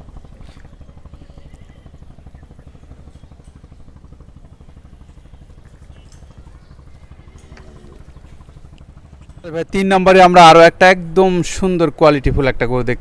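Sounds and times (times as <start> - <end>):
engine running with low pulsing: 0.0 - 13.0.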